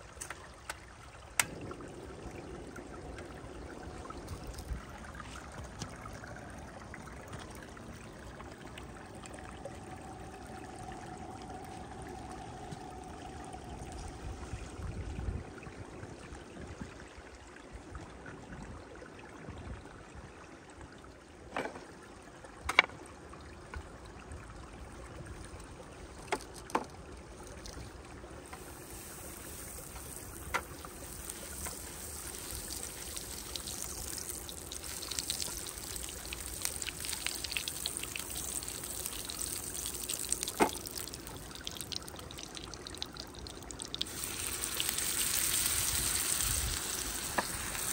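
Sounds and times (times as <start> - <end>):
stream trickling over rocks: 0.0 - 47.9.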